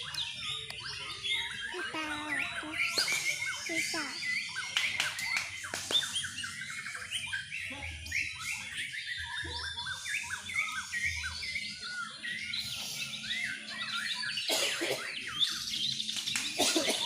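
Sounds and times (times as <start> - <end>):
caged birds singing: 0.0 - 17.0.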